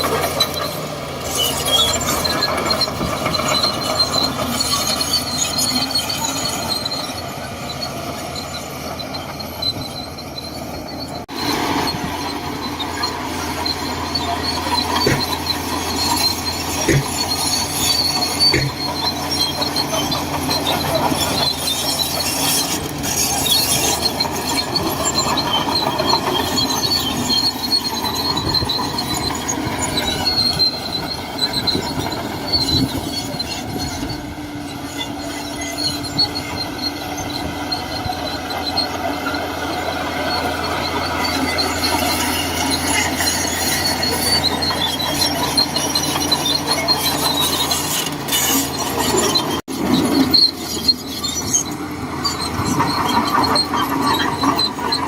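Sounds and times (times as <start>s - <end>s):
bulldozer diesel engine: 0.0s - 55.0s
steel tracks squealing: 0.0s - 55.0s.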